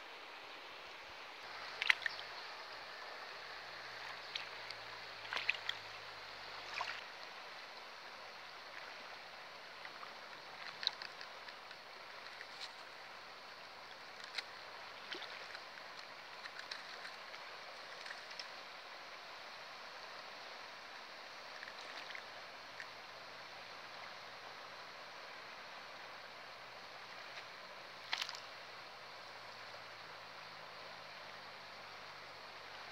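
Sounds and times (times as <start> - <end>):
river water rushing: 0.0 - 32.9
light water splashes: 0.4 - 32.9.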